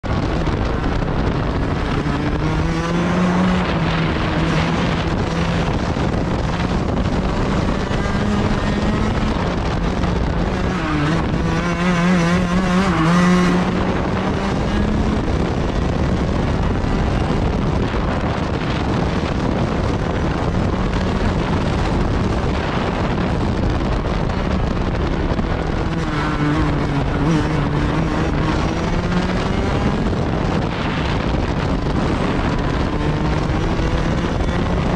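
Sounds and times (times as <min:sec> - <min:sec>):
go-kart engine at speed: 0:00.0 - 0:34.9.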